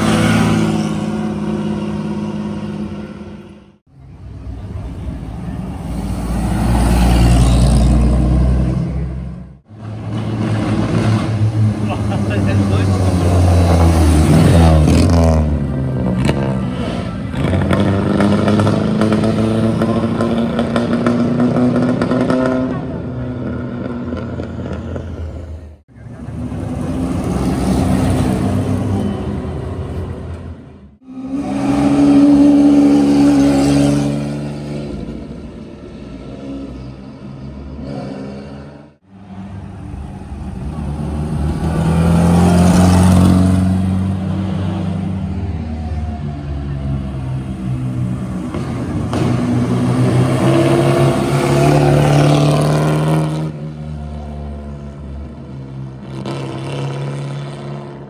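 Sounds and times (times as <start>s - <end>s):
car engines revving and accelerating: 0.0s - 58.0s.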